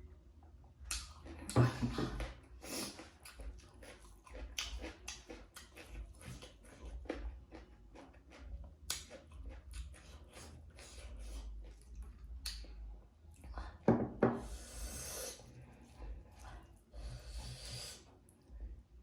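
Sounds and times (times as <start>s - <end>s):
mouth chewing food: 0.8s - 18.6s.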